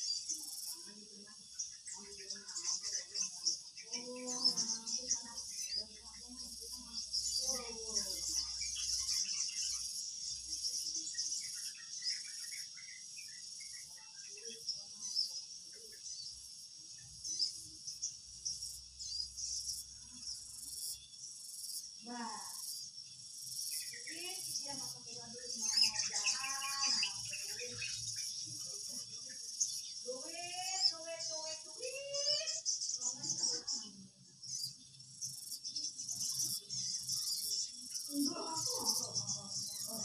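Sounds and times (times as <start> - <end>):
insect chirping: 0.0 - 40.0.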